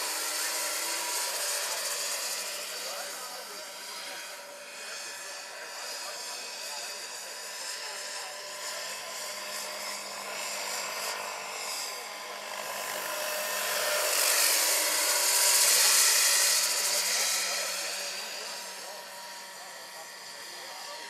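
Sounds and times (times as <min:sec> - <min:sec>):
model helicopter whine: 0:00.0 - 0:21.0.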